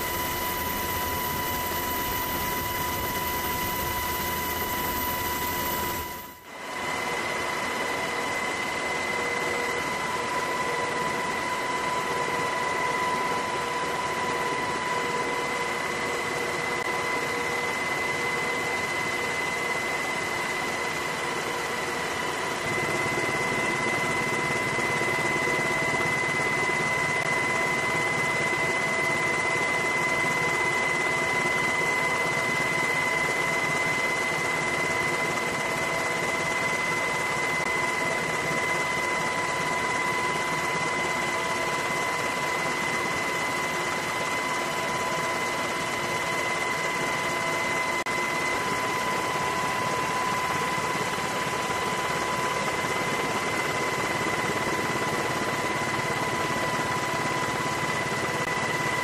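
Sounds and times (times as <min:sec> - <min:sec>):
constant high whine: 0:00.0 - 0:59.0
helicopter engine and rotor: 0:00.0 - 0:59.0.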